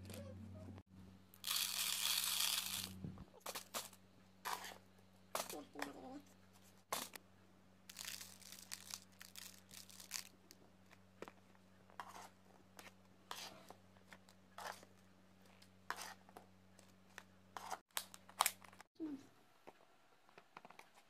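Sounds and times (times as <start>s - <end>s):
low electrical hum: 0.0s - 20.2s.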